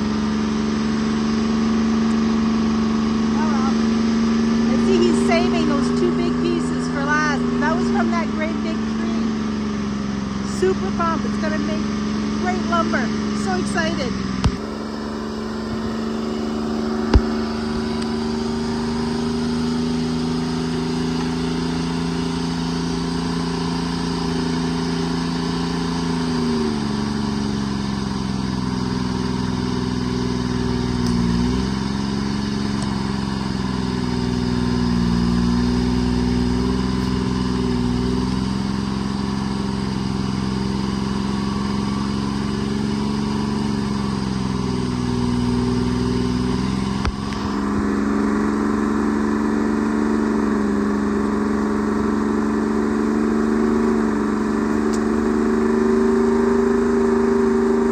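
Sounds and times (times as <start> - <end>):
forwarder engine running: 0.0 - 57.9.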